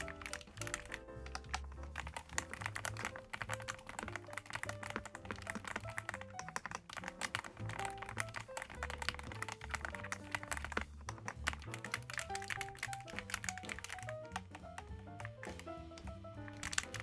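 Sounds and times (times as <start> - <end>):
mechanical keyboard typing: 0.0 - 15.7, 16.5 - 17.0
background music with bass: 0.0 - 17.0.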